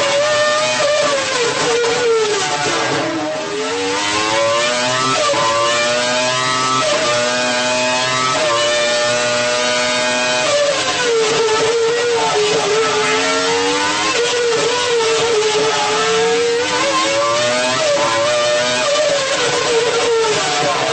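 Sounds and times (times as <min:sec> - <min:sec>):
racing car engine revving: 0:00.0 - 0:20.9.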